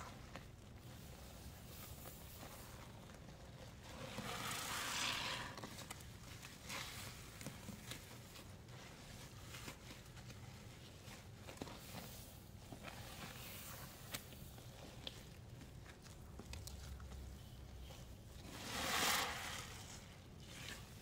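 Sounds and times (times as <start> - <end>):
faint crackling foam: 0.0 - 21.0.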